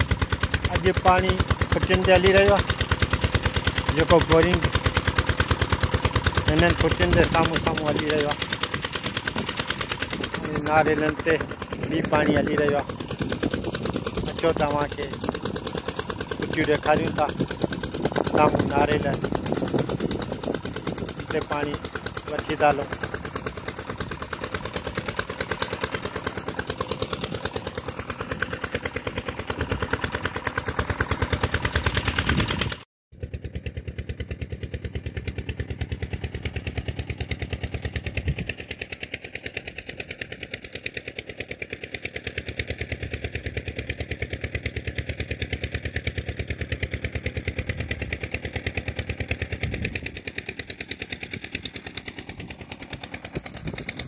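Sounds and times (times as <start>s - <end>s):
diesel water pump engine knocking: 0.0s - 54.0s.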